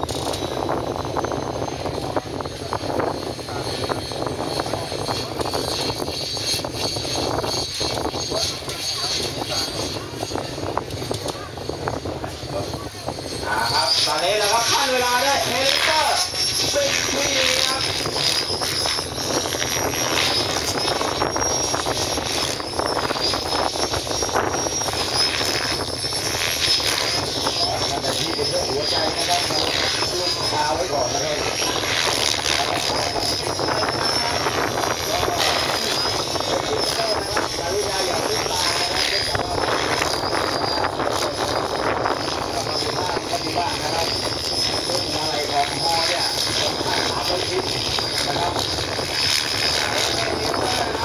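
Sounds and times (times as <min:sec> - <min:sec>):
aircraft engine with turbine whine: 0:00.0 - 0:51.0.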